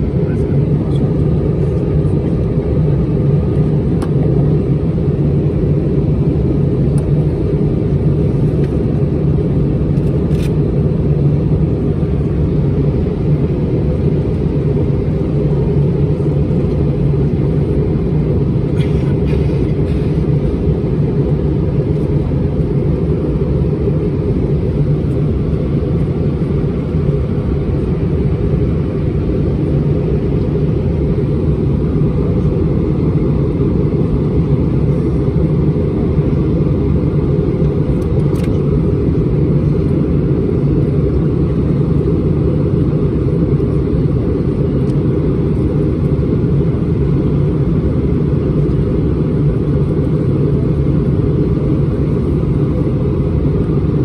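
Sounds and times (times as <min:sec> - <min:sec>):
air rushing along fuselage: 0:00.0 - 0:54.0
airliner engines droning: 0:00.0 - 0:54.0.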